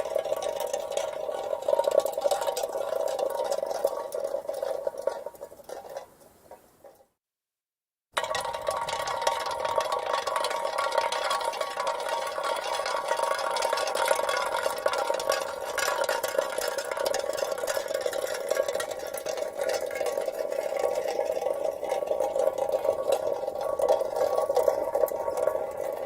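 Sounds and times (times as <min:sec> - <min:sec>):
metal can rolling on asphalt: 0:00.0 - 0:07.1, 0:08.2 - 0:26.0.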